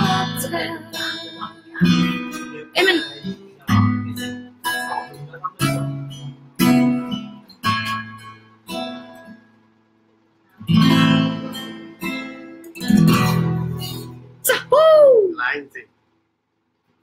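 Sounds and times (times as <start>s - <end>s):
acoustic guitar strumming chords: 0.0s - 14.7s.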